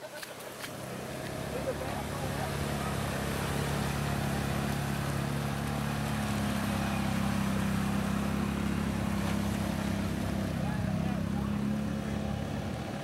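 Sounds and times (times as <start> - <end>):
off-road vehicle engine under load: 0.1 - 13.0.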